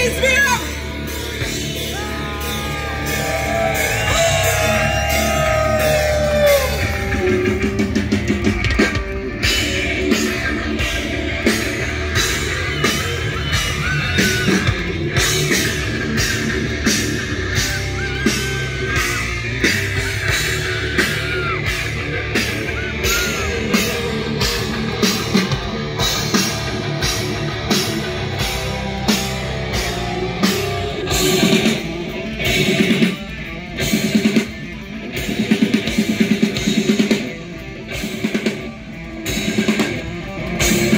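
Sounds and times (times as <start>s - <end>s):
bass guitar: 0.0s - 40.9s
drum kit beat: 0.0s - 40.9s
electric guitar solo: 0.0s - 40.9s.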